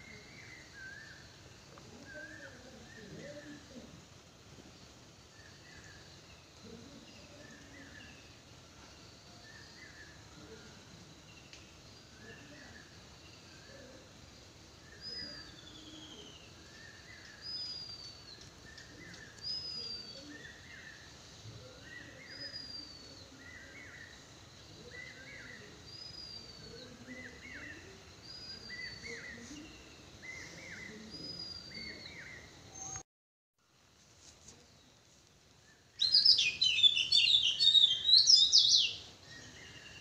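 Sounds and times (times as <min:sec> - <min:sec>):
faint outdoor background noise: 0:00.0 - 0:33.0, 0:33.6 - 0:40.0
lower bird chirp: 0:00.0 - 0:33.0, 0:34.3 - 0:40.0.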